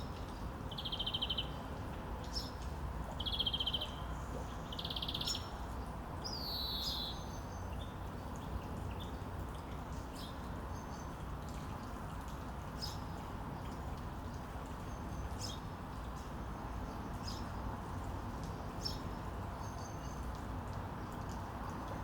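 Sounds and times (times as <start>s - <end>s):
low background hiss: 0.0s - 22.0s.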